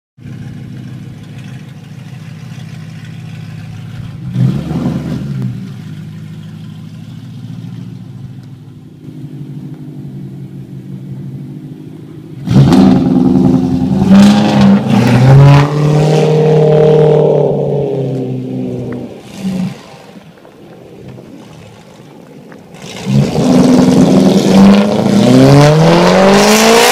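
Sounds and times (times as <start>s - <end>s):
car engine idling and revving: 0.2s - 26.9s.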